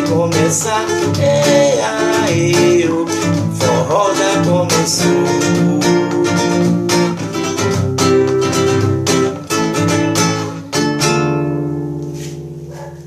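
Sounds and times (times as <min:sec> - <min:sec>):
strummed guitar chords: 0:00.0 - 0:13.0.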